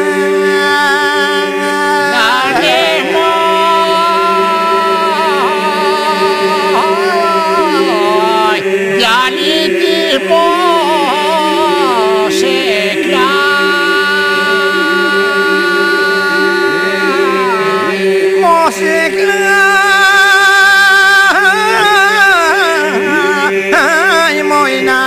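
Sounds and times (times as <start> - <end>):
man singing ornamented melody: 0.0 - 25.0
men singing drone: 0.0 - 25.0.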